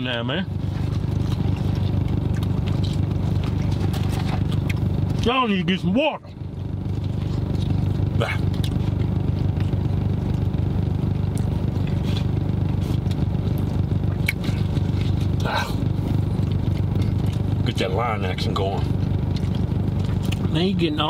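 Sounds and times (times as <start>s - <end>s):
car hum from inside cabin: 0.0s - 21.0s.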